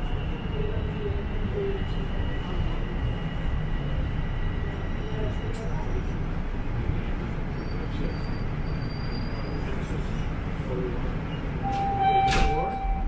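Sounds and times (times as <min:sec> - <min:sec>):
subway car rumble and hum: 0:00.0 - 0:13.0.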